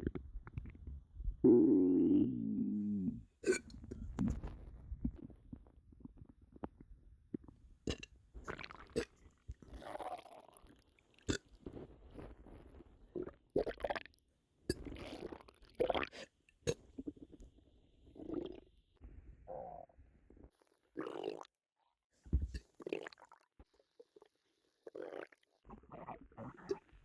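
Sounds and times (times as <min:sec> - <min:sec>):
stomach rumbling and gurgling: 0:00.0 - 0:21.6, 0:22.3 - 0:27.0.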